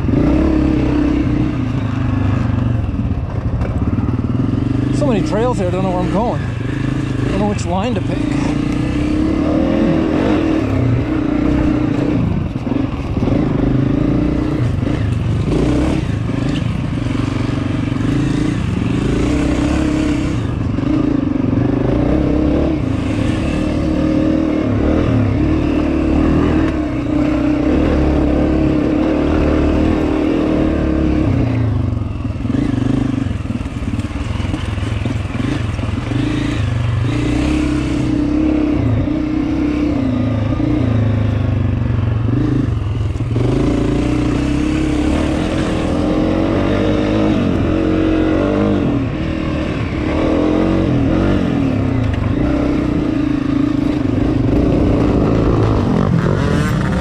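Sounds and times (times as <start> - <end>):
dirt bike engine revving: 0.0 - 2.8, 3.6 - 57.0.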